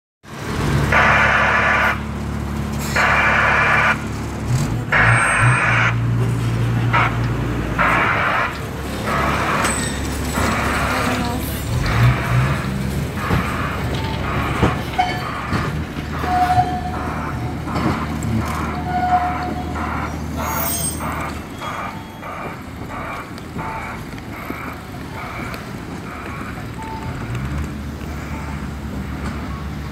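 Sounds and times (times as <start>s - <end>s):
high wheel squeals: 2.8s - 5.9s, 7.8s - 29.9s.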